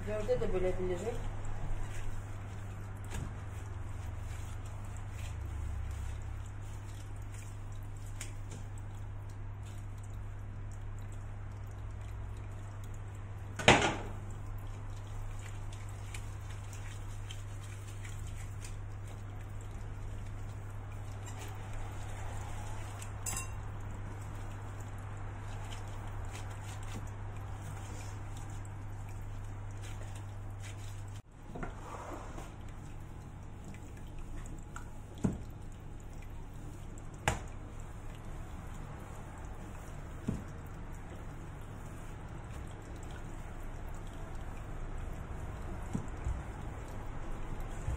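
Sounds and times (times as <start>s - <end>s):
dough rolling on silicone mat: 0.0s - 10.4s, 14.0s - 47.9s
low steady hum: 0.0s - 47.9s.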